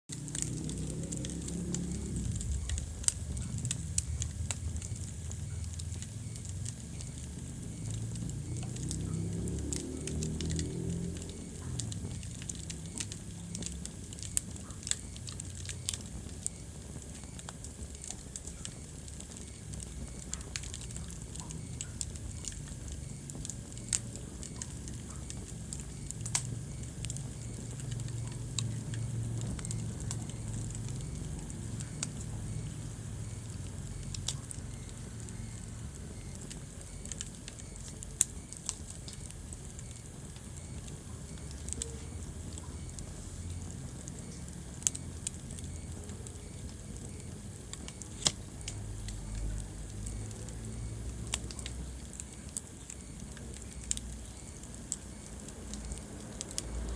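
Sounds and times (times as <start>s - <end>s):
low rumble of flames: 0.1s - 56.9s
wood crackling and popping: 0.1s - 56.9s.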